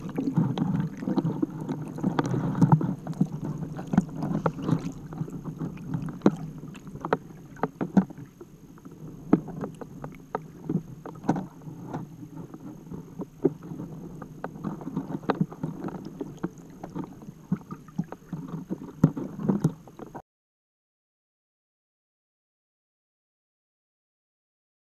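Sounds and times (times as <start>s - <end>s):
underwater water rushing: 0.0s - 20.1s.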